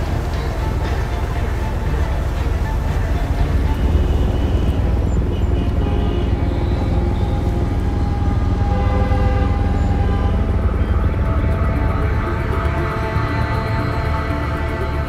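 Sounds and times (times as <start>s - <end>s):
dark music with held tones: 0.0s - 15.0s
deep steady rumble: 0.0s - 15.0s.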